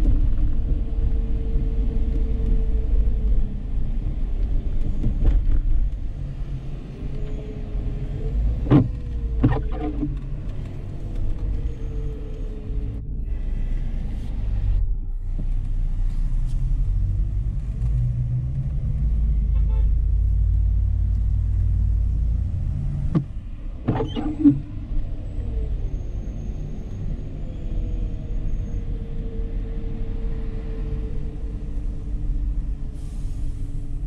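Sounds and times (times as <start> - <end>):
car engine rumble: 0.0 - 34.0
road noise: 0.0 - 34.0.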